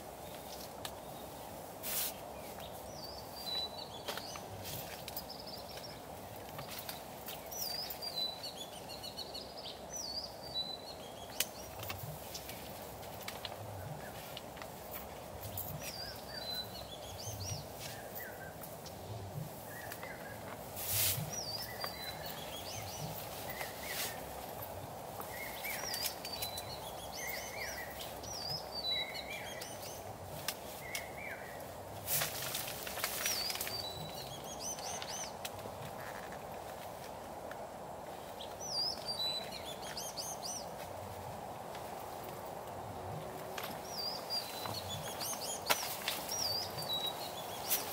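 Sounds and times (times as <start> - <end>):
birds chirping: 0.0 - 47.9
steady background hiss: 0.0 - 47.9.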